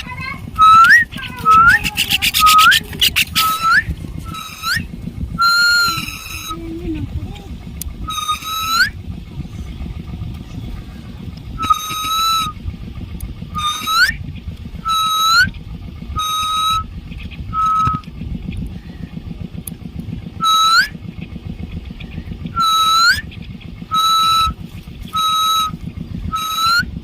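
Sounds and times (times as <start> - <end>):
bird whistling notes: 0.0 - 6.6, 7.9 - 12.7, 13.3 - 19.5, 20.2 - 27.0
low rumbling noise: 0.0 - 27.0.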